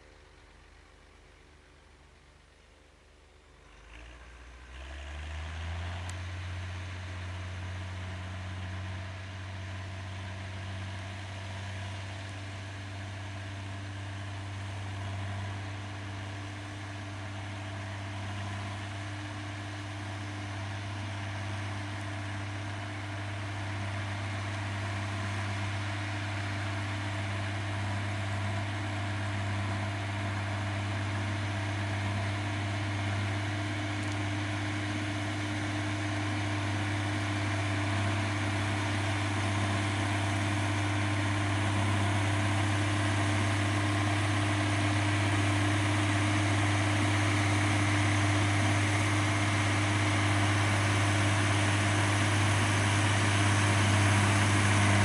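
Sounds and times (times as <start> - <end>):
tractor diesel engine humming: 6.0 - 55.0.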